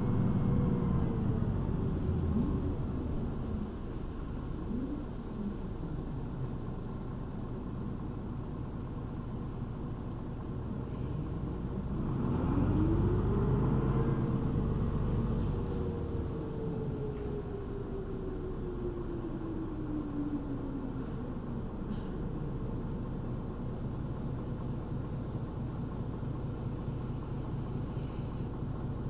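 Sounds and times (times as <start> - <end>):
bus engine with rising whine: 0.0 - 29.0
road noise: 0.0 - 29.0.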